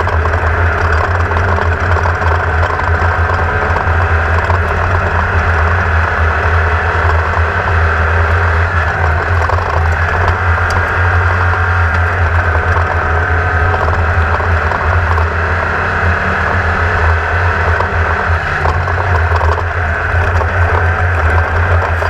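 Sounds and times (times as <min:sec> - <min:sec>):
buggy engine running: 0:00.0 - 0:22.0
chassis rattle: 0:00.0 - 0:22.0
wind: 0:00.0 - 0:22.0.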